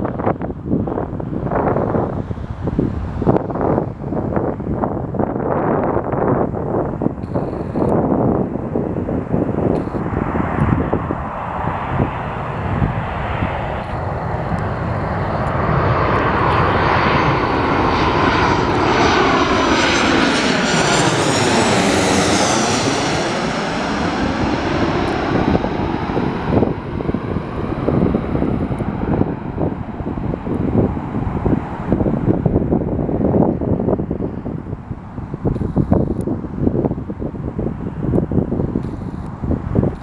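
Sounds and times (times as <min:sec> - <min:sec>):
airliner jet engines passing overhead: 0:00.0 - 0:40.0.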